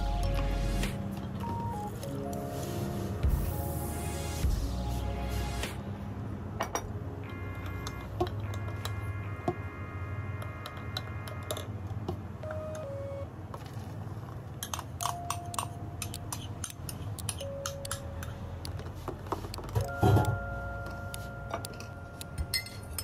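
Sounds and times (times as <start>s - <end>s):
soft background music: 0.0s - 11.3s, 12.3s - 13.5s, 15.0s - 23.0s.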